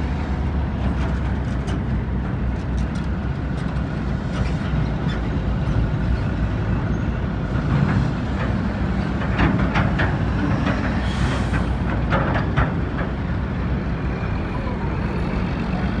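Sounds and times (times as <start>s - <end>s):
dump truck diesel engine: 0.0s - 16.0s.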